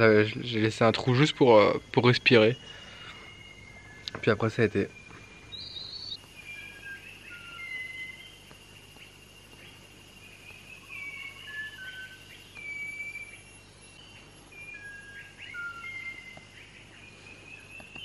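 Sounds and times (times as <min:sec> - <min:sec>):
songbird whistling: 0:02.1 - 0:18.0.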